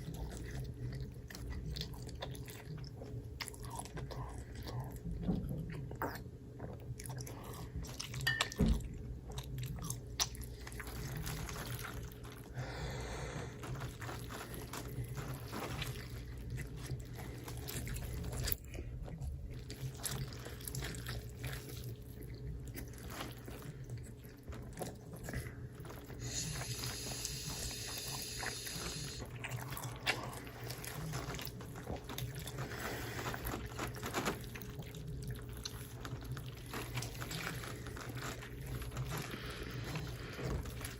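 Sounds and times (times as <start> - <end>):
chewing and biting: 0.0 - 12.6, 13.5 - 40.9
steady low hum: 0.0 - 40.9.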